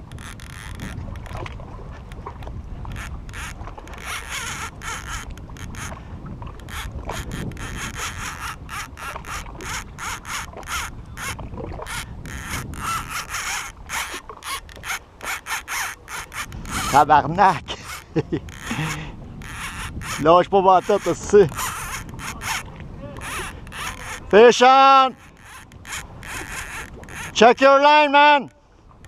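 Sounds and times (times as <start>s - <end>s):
wind on microphone: 0.0s - 27.6s
fishing reel whirring: 0.0s - 28.5s.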